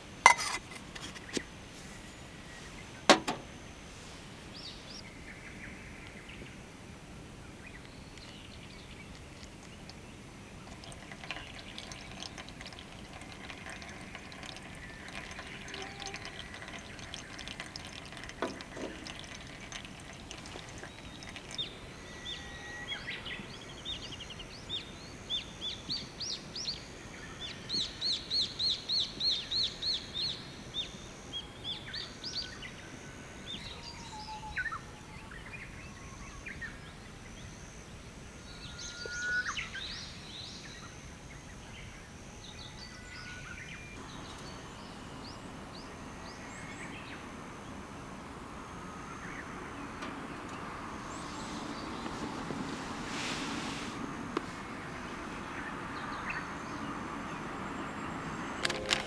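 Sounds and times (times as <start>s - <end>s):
steady background hiss: 0.0s - 10.8s, 20.7s - 59.0s
songbirds singing: 4.5s - 53.4s, 54.0s - 59.0s.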